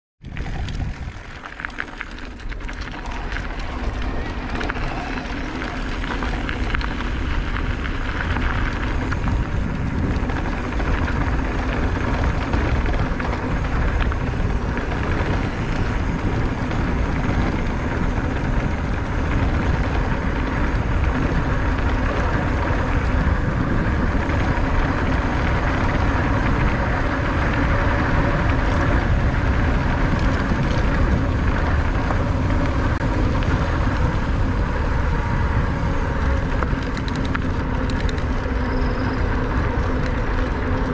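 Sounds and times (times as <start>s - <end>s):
bike tyres rolling over gravel: 0.2s - 40.9s
wind rumble on microphone: 0.2s - 40.9s.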